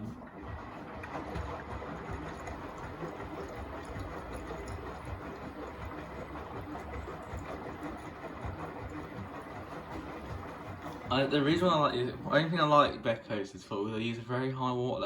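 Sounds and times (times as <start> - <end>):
washing machine drum turning: 0.0 - 14.1
water sloshing: 0.0 - 14.8
low mechanical hum: 0.0 - 15.0.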